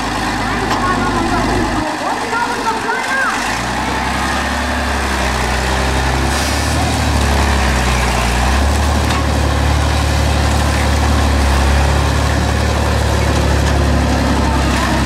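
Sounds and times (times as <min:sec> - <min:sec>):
heavy engine idling: 0:00.0 - 0:15.0.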